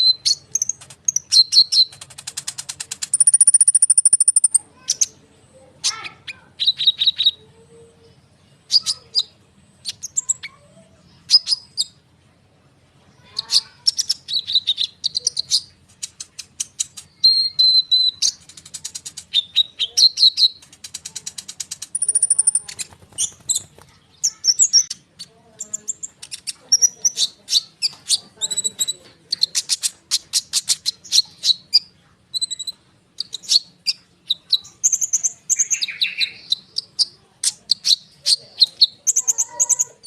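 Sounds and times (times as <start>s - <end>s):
bird song with chips and trills: 0.0s - 12.1s, 13.1s - 40.0s.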